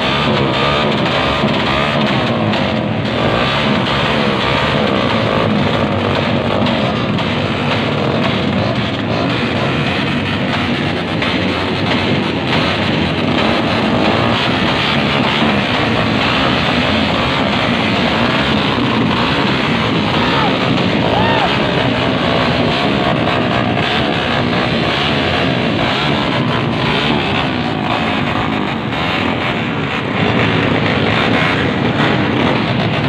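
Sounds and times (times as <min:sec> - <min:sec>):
crowd noise: 0:00.0 - 0:33.0
loud rock music: 0:00.0 - 0:33.0.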